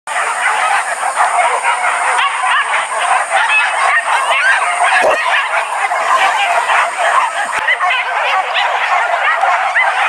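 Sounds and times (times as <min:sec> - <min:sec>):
dogs yelping and barking: 0:00.1 - 0:10.0.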